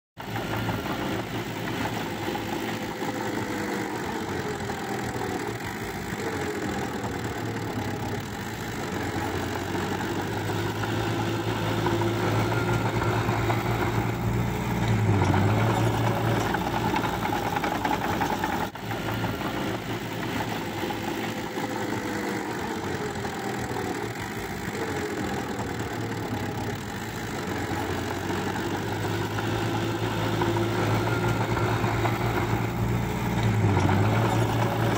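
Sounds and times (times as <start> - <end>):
blade pushing soil: 0.2 - 34.9
bulldozer diesel engine running: 0.2 - 34.9.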